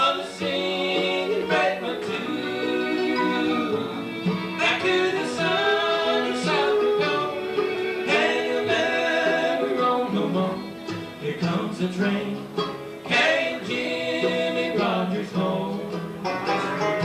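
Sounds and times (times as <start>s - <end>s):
person singing: 0.0s - 16.1s
acoustic string instruments: 0.0s - 17.0s.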